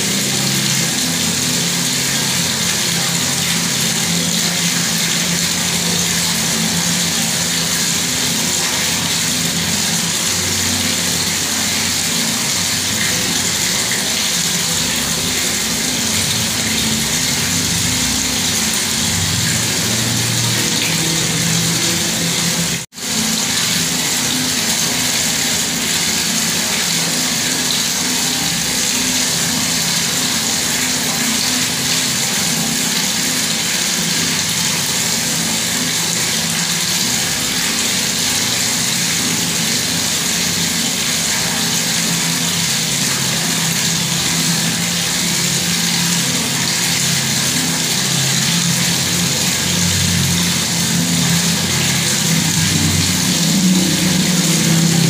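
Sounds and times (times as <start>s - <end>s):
water tap running: 0.0s - 55.0s.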